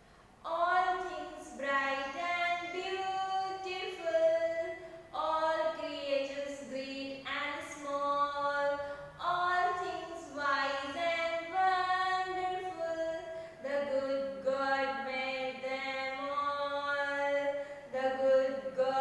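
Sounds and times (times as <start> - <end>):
woman singing slowly: 0.4 - 19.0.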